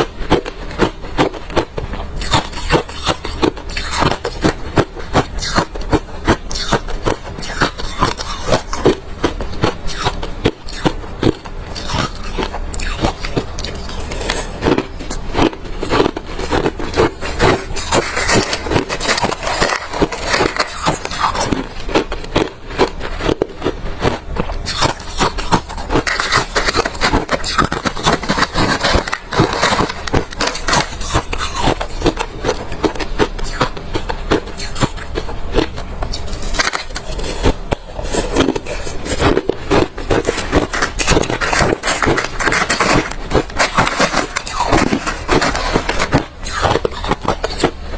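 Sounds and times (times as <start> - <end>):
chewing crunchy ice: 0.0 - 47.9.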